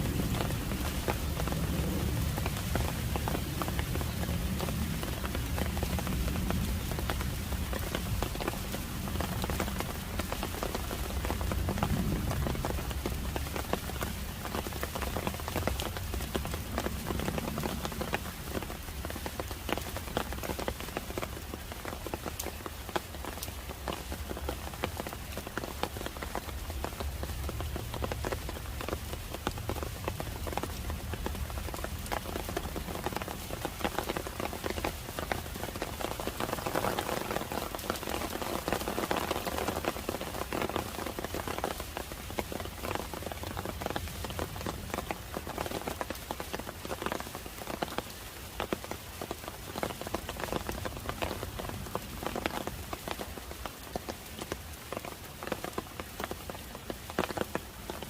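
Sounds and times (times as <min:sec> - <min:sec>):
raindrops ticking on surfaces: 0:00.0 - 0:58.0
steady rain falling: 0:00.0 - 0:58.0.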